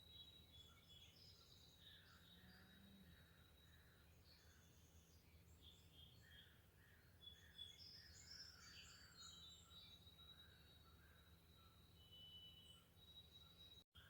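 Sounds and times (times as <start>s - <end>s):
birds chirping and trilling: 0.0s - 14.0s.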